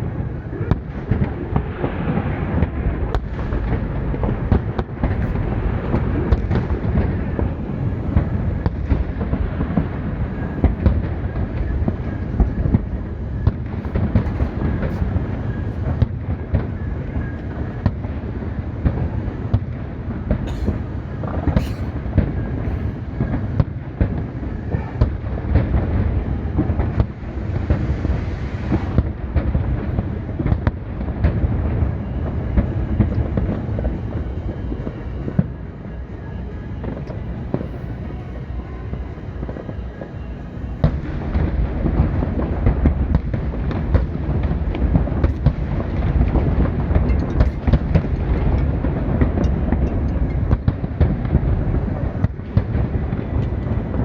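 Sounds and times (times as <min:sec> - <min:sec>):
fireworks bangs and crackles: 0:00.0 - 0:54.0
low rumble: 0:00.0 - 0:54.0.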